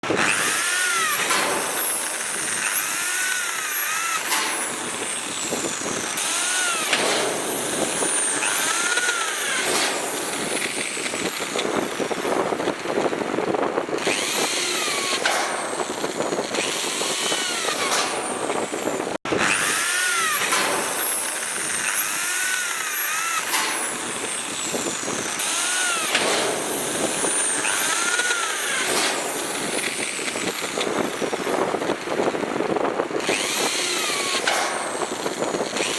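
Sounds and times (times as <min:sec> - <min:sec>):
electric drill boring into steel: 0:00.0 - 0:35.9.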